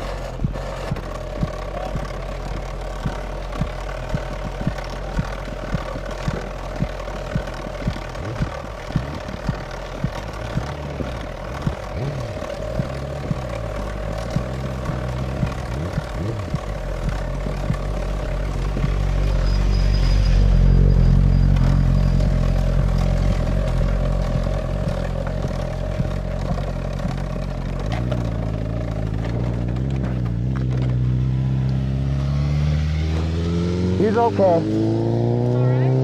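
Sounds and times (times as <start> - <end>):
vehicle engine running and revving: 0.0 - 36.0.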